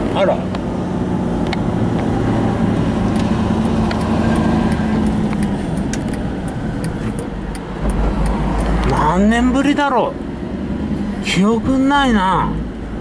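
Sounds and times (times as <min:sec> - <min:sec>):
tyre noise on road: 0:00.0 - 0:11.9
car engine hum: 0:00.0 - 0:13.0.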